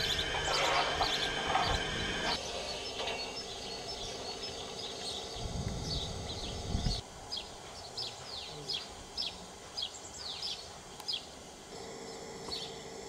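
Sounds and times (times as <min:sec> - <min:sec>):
small birds chirping: 0:00.0 - 0:11.4, 0:12.0 - 0:12.9
outdoor background noise: 0:00.0 - 0:13.0.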